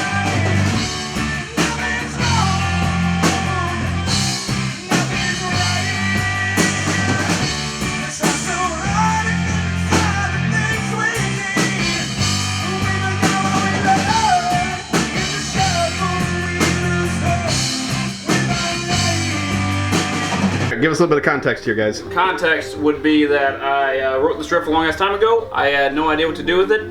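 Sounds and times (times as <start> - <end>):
rock music: 0.0 - 26.9.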